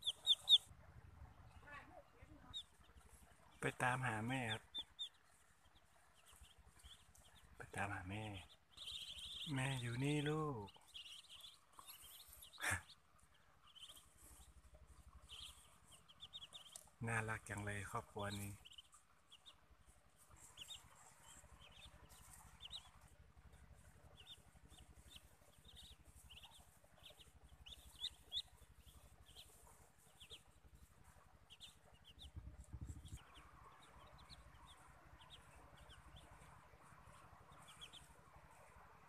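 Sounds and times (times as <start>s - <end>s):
ducklings peeping: 0.0s - 39.0s.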